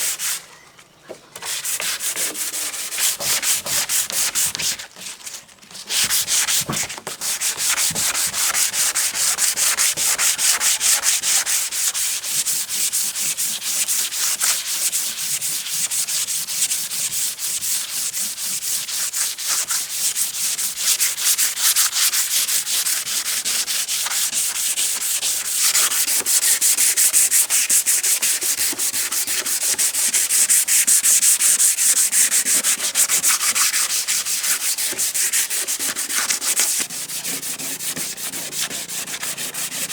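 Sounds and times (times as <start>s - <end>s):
rapid sanding strokes: 1.4s - 4.7s, 5.9s - 39.9s.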